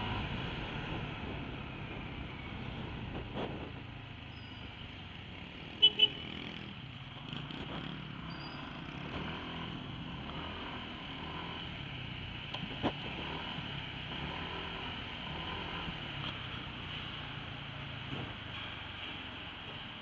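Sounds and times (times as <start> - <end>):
motorcycle engine low rumble: 0.0 - 20.0.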